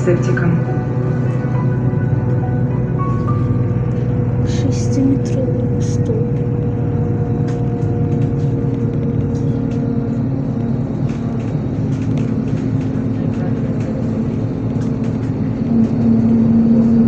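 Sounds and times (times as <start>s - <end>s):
bus engine drone with whine: 0.0s - 17.0s
road and tyre noise: 0.0s - 17.0s.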